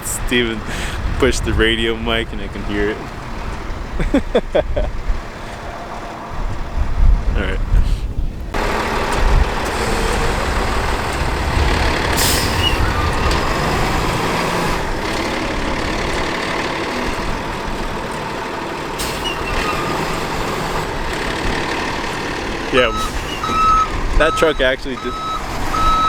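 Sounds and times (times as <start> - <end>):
truck diesel engine rumbling: 0.0 - 26.0.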